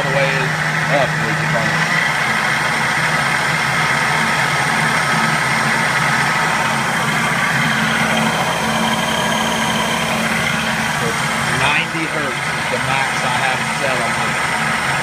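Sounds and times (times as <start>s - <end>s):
metal lathe motor humming: 0.0s - 15.0s.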